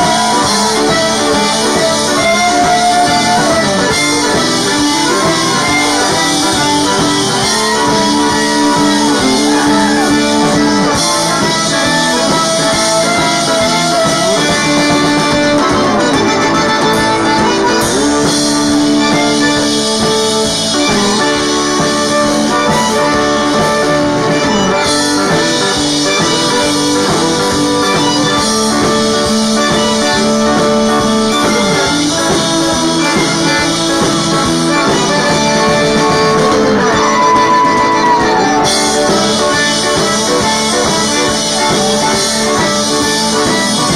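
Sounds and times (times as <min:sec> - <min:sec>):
accordion: 0:00.0 - 0:43.9
steel guitar: 0:00.0 - 0:43.9.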